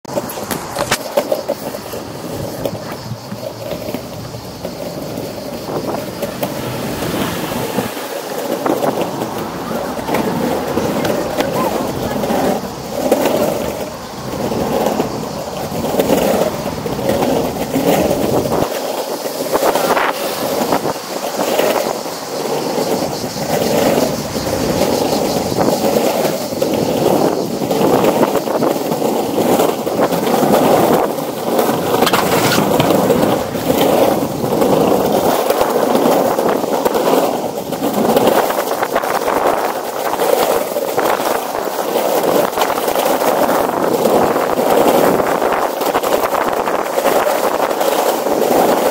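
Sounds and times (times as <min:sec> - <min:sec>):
skateboard wheels rolling on planks: 0:00.0 - 0:48.9.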